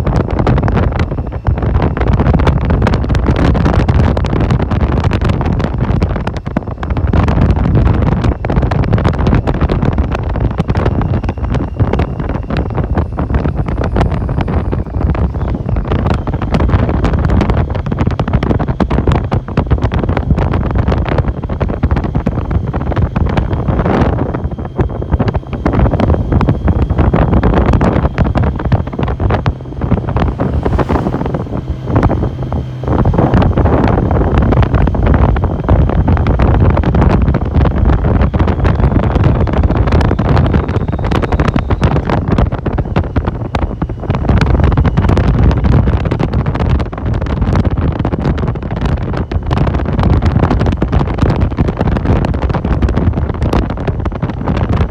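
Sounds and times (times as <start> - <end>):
motorcycle engine: 0.0 - 54.9
wind buffeting microphone: 0.0 - 54.9.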